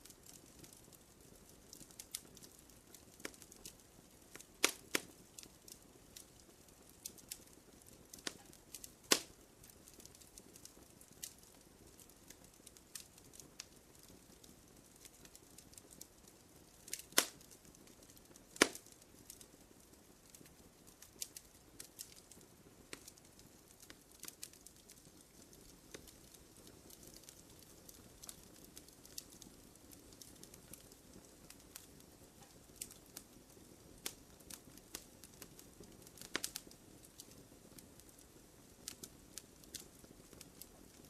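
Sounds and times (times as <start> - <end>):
faint hiss of flames: 0.0 - 41.0
wood fire crackling: 0.0 - 41.0.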